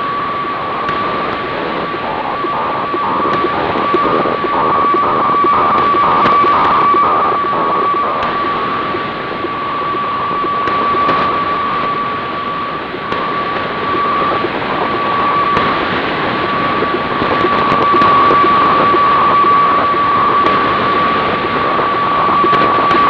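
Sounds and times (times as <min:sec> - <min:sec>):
static hiss: 0:00.0 - 0:23.0
steady radio tone: 0:00.0 - 0:23.0.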